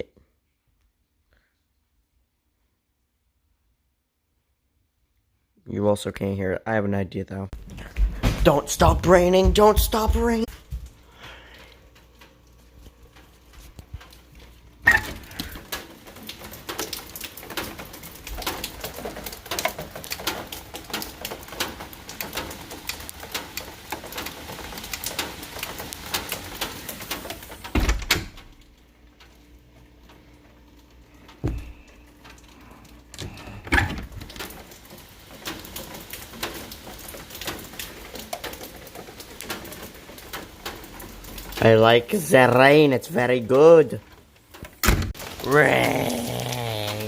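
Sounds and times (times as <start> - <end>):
heavy rain pattering: 7.6 - 47.0.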